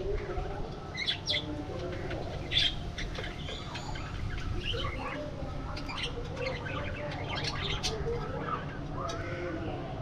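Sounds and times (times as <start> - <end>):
budgerigars chirping: 1.0 - 9.3.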